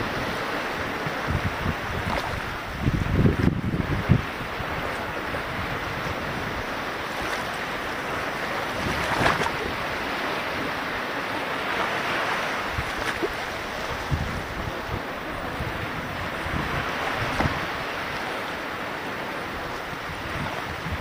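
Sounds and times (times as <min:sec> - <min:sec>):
small waves washing over rocks: 0:00.0 - 0:21.0
wind rumble on microphone: 0:00.0 - 0:21.0.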